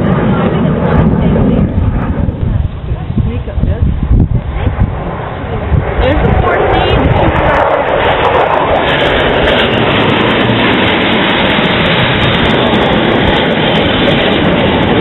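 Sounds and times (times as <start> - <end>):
jet roar overhead: 0.0 - 15.0.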